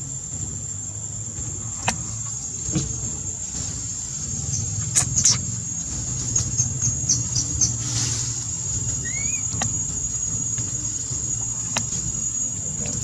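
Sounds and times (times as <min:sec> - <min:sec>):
high-pitched insect drone: 0:00.0 - 0:13.0
low rumble: 0:00.0 - 0:13.0.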